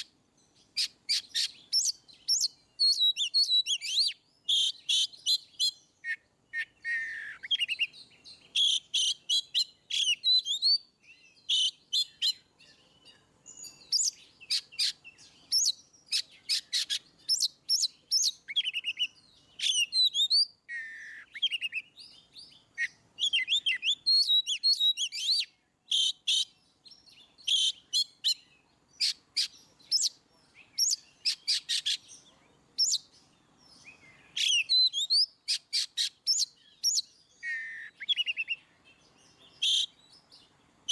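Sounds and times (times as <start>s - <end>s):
bird singing whistled song: 0.0s - 40.9s.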